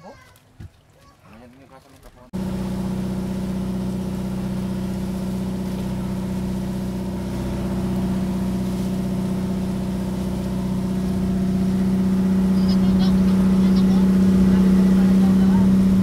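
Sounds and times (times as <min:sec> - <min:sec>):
boat engine droning: 0:02.4 - 0:16.0.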